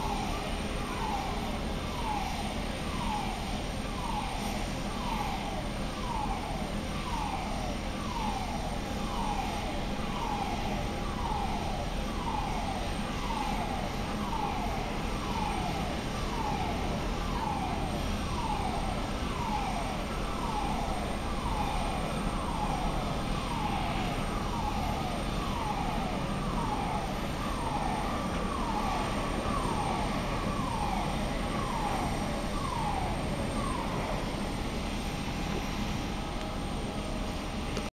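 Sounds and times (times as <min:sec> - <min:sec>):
jet aircraft noise: 0:00.0 - 0:37.9.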